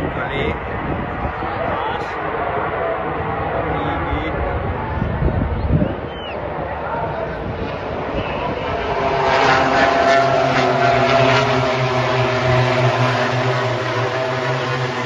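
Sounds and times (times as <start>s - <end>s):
racing motorcycles passing at full throttle: 0.0s - 15.0s.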